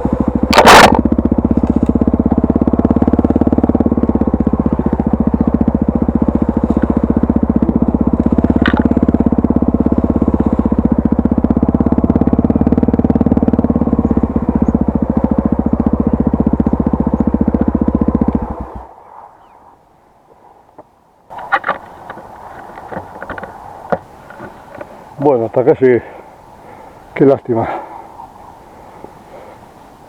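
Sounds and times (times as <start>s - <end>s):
motorcycle engine running: 0.0s - 18.9s, 21.3s - 29.5s.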